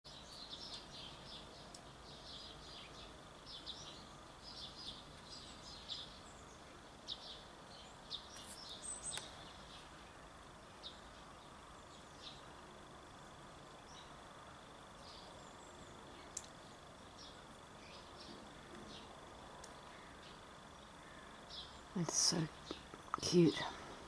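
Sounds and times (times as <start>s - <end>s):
garden birds chirping: 0.1s - 24.0s.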